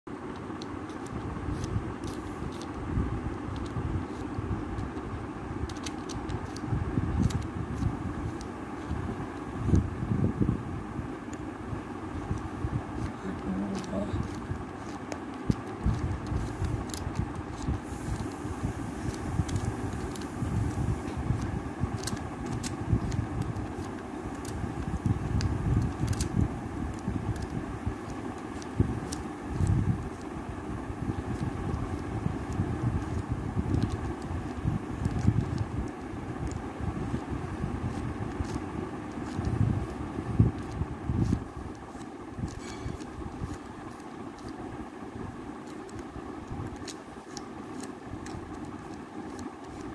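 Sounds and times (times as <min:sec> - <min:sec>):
low rumbling background noise: 0:00.1 - 0:49.9.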